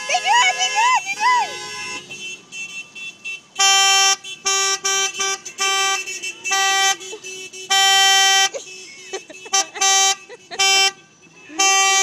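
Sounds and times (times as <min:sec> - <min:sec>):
car horn honking: 0:00.0 - 0:12.0.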